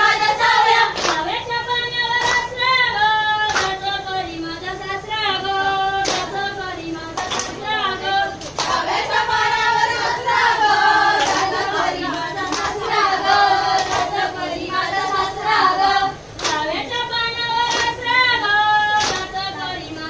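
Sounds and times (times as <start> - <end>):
women singing a dance song: 0.0 - 20.0.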